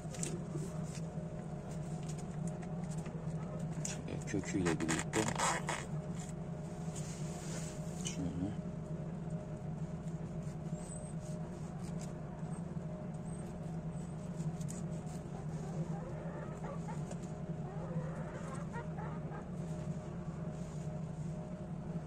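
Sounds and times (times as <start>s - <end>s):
faint wavering whine: 0.0s - 22.0s
steady low hum: 0.0s - 22.0s.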